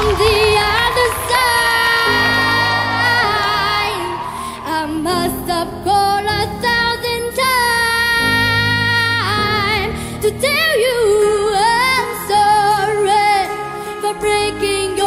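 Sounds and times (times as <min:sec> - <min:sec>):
girl singing slow song: 0:00.0 - 0:15.0.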